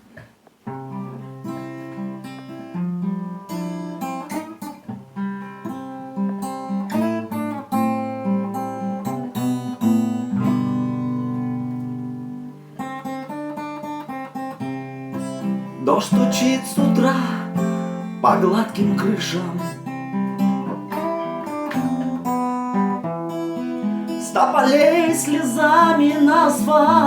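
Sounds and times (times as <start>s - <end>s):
acoustic guitar chords ringing: 0.6s - 27.0s.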